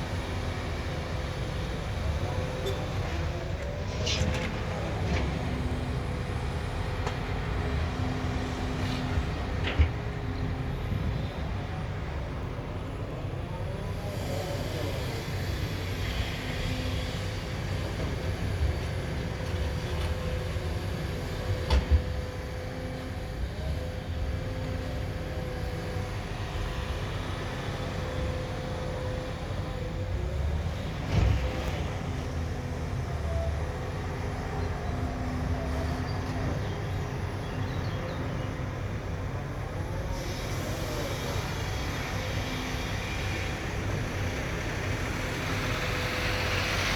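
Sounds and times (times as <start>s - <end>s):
diesel machinery rumbling: 0.0s - 46.9s.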